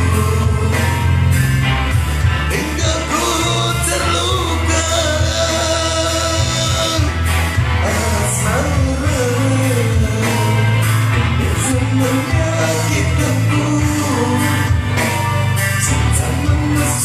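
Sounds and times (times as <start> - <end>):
music with steady bass line: 0.0 - 17.0
person singing: 0.0 - 17.0.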